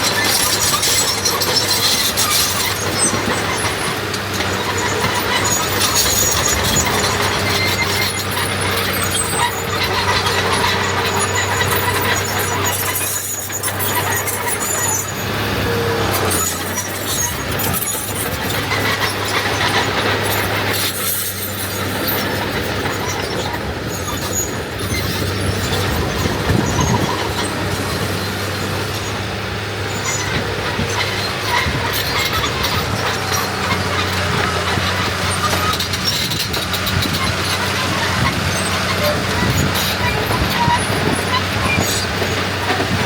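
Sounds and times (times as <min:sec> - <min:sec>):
high metallic squeals: 0:00.0 - 0:29.2, 0:29.9 - 0:42.8
diesel engine drone: 0:00.0 - 0:43.0.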